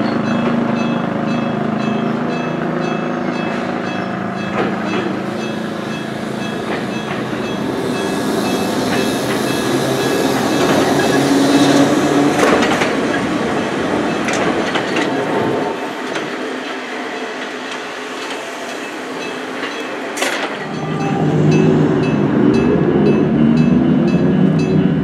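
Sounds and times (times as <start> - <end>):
electric train running on rails: 0.0 - 25.0
sharp clacks of train wheels: 0.0 - 25.0.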